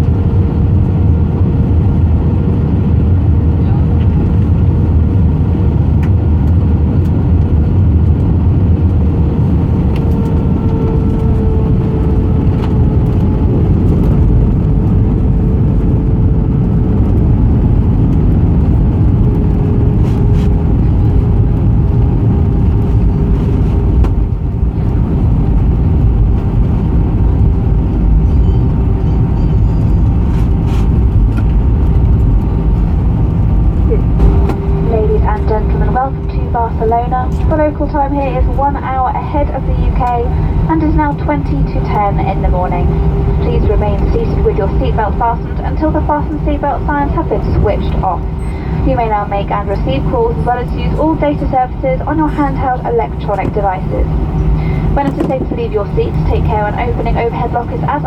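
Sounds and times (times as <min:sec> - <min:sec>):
aircraft engines and wheels rumbling: 0:00.0 - 0:58.0.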